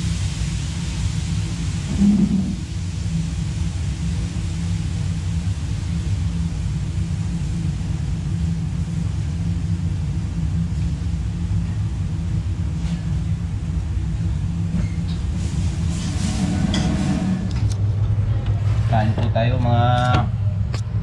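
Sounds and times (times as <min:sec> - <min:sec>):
gas range and extractor rumble: 0:00.0 - 0:21.0.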